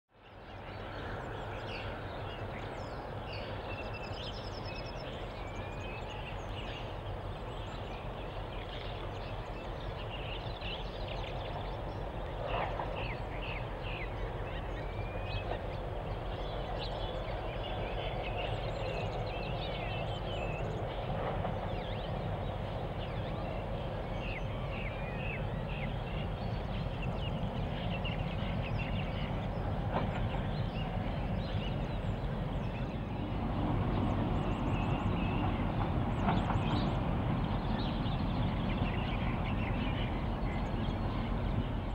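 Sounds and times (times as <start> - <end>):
distant locomotive rumble: 0.2 - 41.9.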